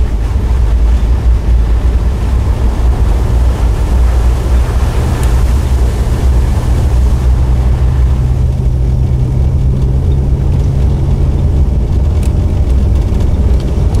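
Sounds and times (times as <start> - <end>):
car engine humming: 0.0 - 14.0
road noise: 0.0 - 14.0.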